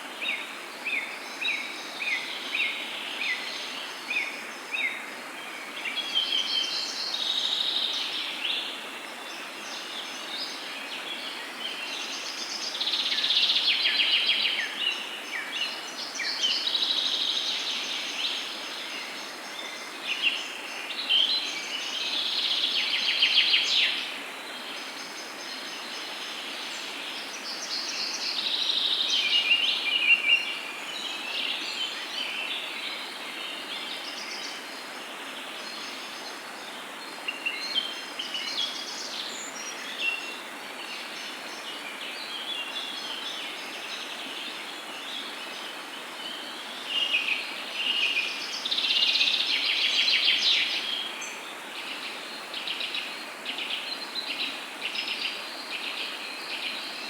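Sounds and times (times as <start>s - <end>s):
songbirds singing: 0.0s - 57.0s
steady background hiss: 0.0s - 57.0s.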